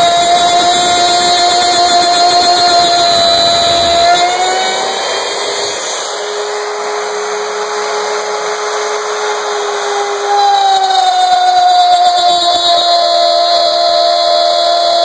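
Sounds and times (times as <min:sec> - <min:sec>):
wood router whining: 0:00.0 - 0:15.0.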